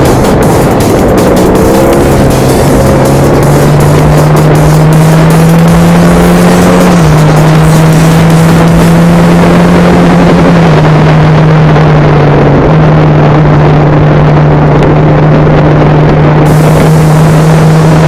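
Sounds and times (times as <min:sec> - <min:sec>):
motorcycle engine running hard: 0:00.0 - 0:18.0
wind noise: 0:00.0 - 0:18.0.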